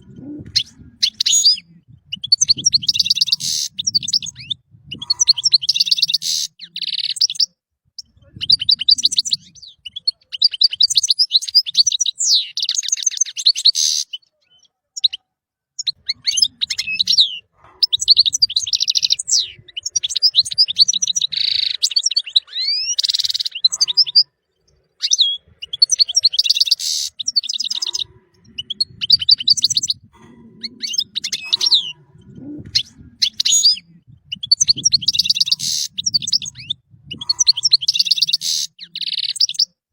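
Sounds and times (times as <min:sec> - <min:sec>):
finch singing: 0:00.0 - 0:15.2, 0:15.8 - 0:39.7.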